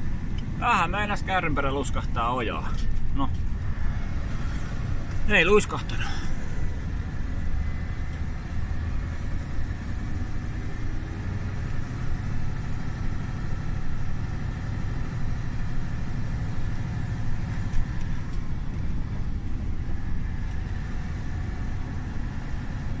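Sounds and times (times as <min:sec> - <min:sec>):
engine and tyre rumble: 0:00.0 - 0:23.0.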